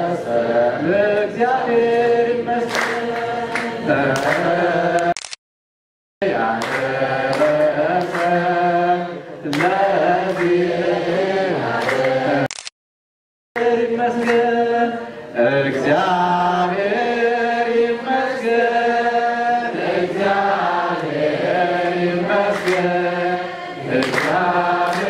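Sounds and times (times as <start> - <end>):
choir chanting: 0.0 - 5.1, 6.2 - 12.5, 13.6 - 25.0.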